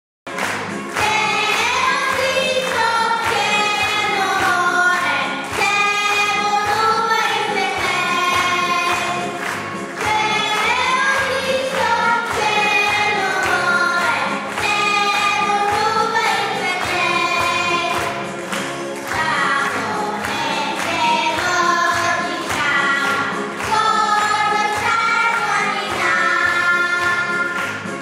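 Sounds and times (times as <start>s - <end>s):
young girls singing: 0.9s - 18.2s, 19.0s - 27.8s.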